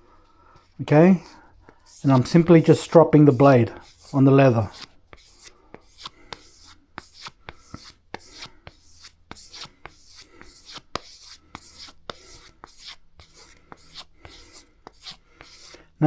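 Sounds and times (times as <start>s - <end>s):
knife stropped on leather: 0.6s - 15.8s.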